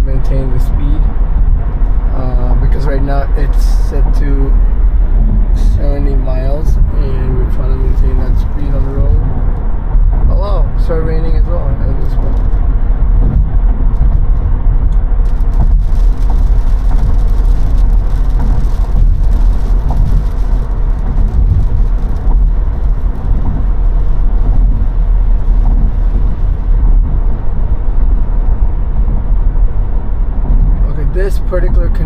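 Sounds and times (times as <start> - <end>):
tyre and road noise in car: 0.0 - 32.0.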